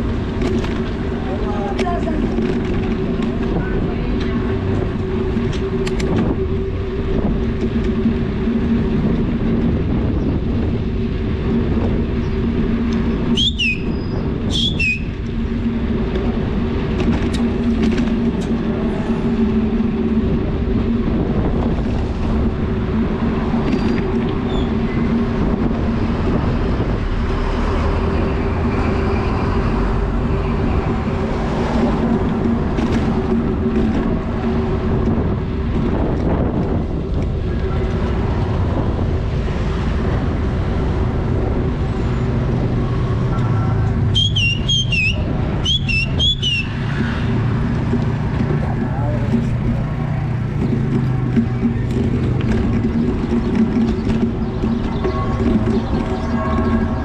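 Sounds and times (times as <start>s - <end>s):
bicycle tyre rumble: 0.0s - 57.0s
constant low hum: 0.0s - 57.0s
wind on microphone: 0.0s - 57.0s.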